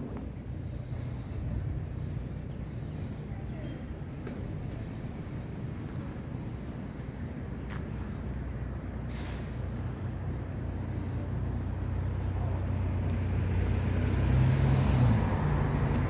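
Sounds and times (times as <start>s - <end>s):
heavy vehicle rumble: 0.0s - 16.0s.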